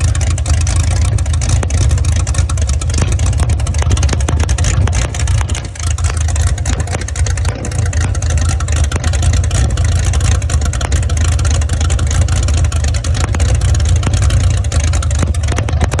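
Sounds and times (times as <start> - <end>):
v-eight engine running: 0.0 - 16.0.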